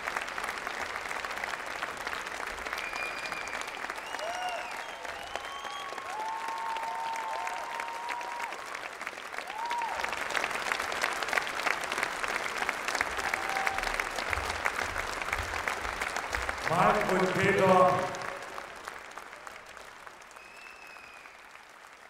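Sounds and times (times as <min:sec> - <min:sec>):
audience applauding: 0:00.0 - 0:22.0
crowd cheering: 0:02.6 - 0:21.8.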